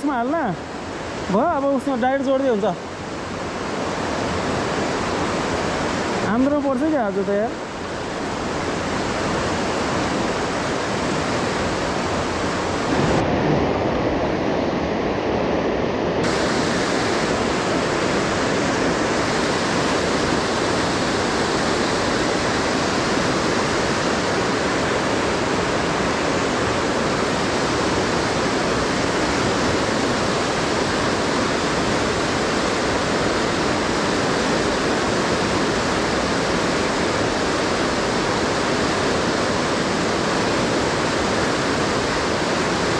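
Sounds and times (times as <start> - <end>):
whitewater rapids rushing: 0.0 - 42.9.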